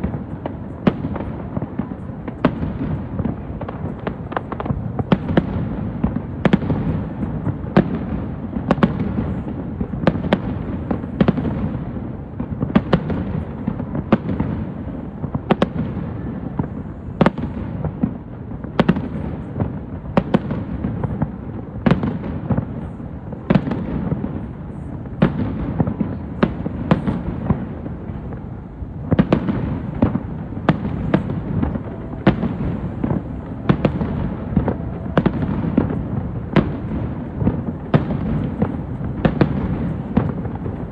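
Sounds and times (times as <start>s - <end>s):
fireworks bursting with sharp bangs: 0.0s - 40.9s.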